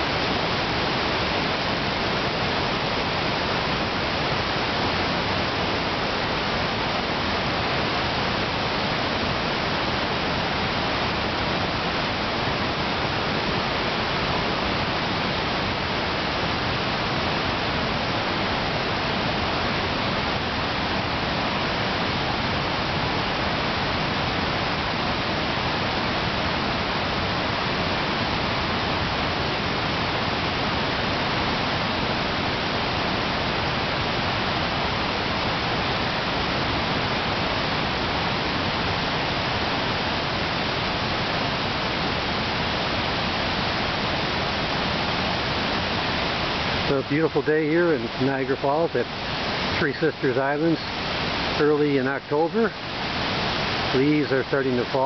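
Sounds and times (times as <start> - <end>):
river rapids roaring: 0.0 - 55.0.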